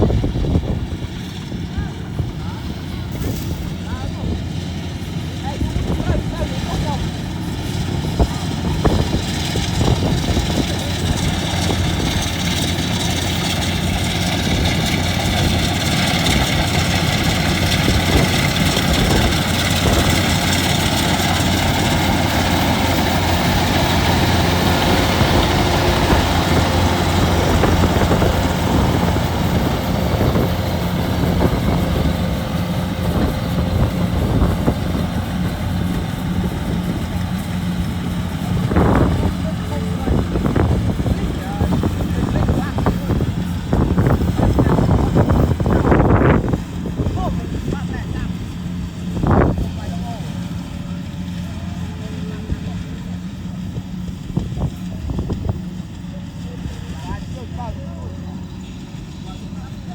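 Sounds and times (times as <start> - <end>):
combine harvester engine running: 0.0 - 59.9.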